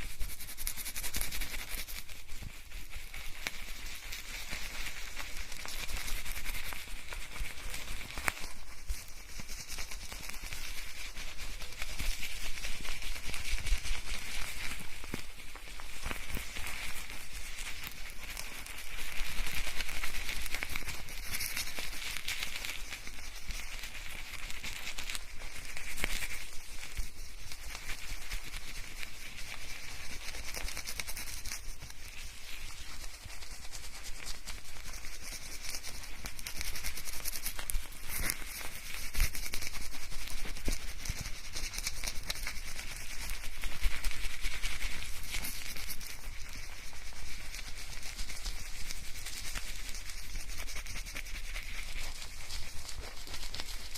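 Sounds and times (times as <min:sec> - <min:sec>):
hair scrubbed with shampoo: 0:00.0 - 0:53.9.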